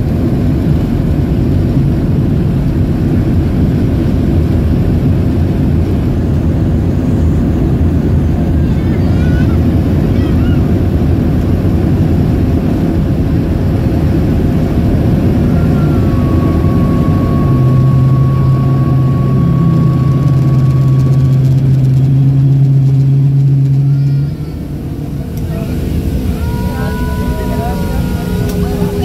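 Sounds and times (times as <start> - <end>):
jet engines rumbling: 0.0 - 29.0
steady low hum: 0.0 - 29.0.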